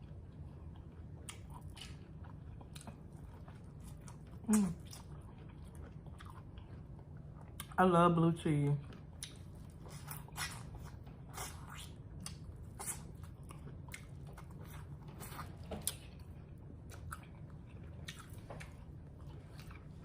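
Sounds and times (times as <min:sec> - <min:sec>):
person chewing crunchy food: 0:00.0 - 0:07.8, 0:08.8 - 0:20.0.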